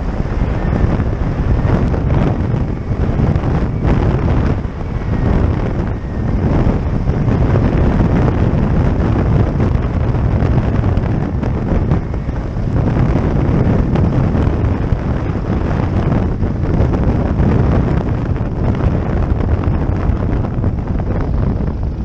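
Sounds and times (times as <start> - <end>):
aircraft engine running: 0.0 - 22.0
wind buffeting microphone: 0.0 - 22.0.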